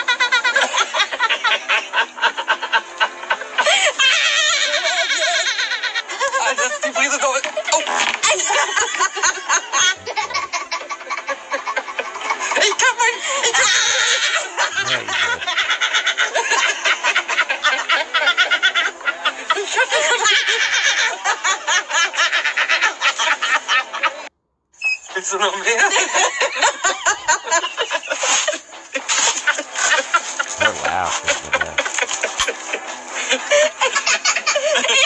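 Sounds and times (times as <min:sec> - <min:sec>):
man and woman laughing: 0:00.0 - 0:24.3, 0:25.4 - 0:35.0.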